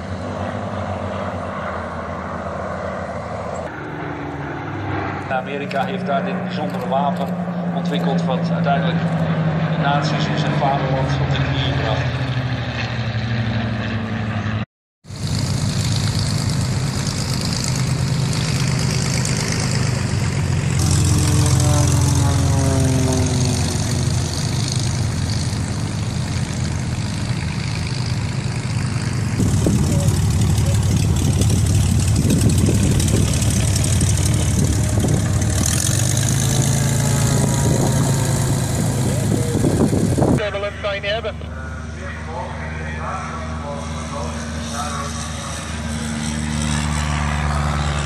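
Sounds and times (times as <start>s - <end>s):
propeller plane engines droning: 0.0s - 48.0s.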